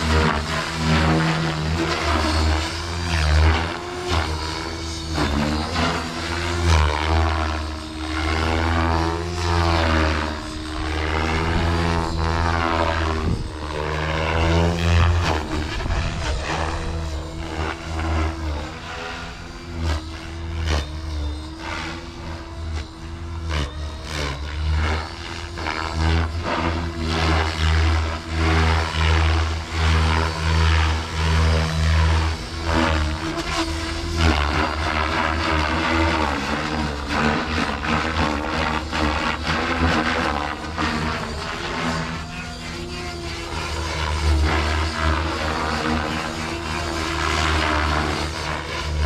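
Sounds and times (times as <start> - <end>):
rc helicopter rotor whine: 0.0 - 49.0.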